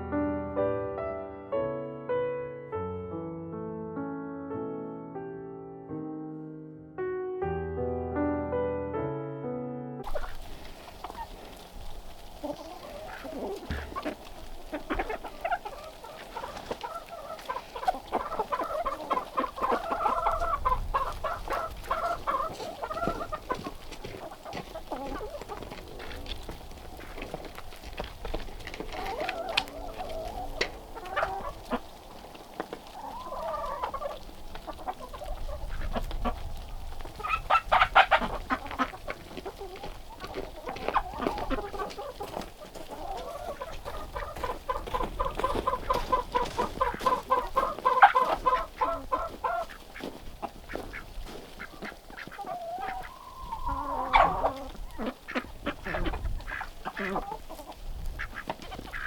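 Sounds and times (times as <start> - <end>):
chickens clucking: 10.0 - 59.0.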